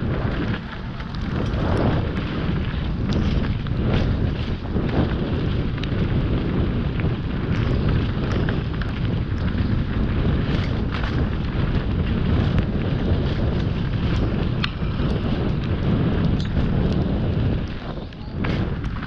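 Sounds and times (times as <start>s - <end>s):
bike clicks and rattles: 0.0s - 19.0s
tyres rolling on dirt trail: 0.0s - 19.0s
wind rushing over microphone: 0.0s - 19.0s.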